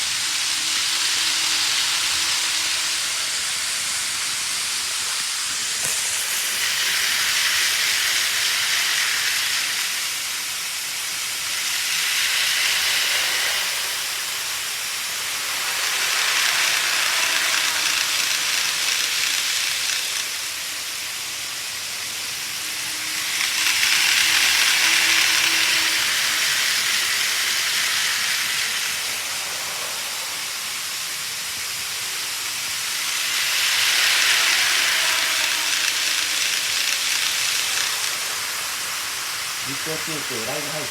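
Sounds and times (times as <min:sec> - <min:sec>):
model train wheels whirring on rails: 0:00.0 - 0:40.9.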